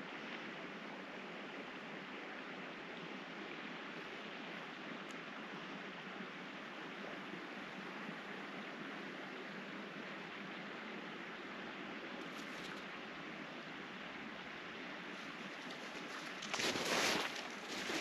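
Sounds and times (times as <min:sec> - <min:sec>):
rushing outdoor background noise: 0:00.0 - 0:18.0.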